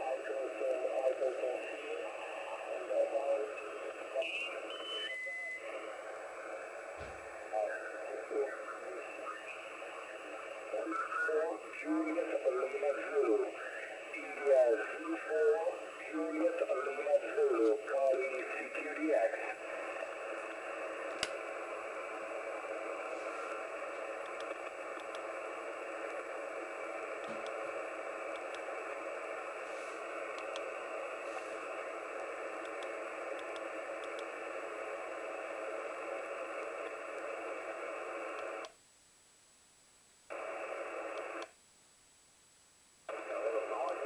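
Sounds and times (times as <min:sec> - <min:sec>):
radio static hiss: 0:00.0 - 0:38.9, 0:39.8 - 0:44.0.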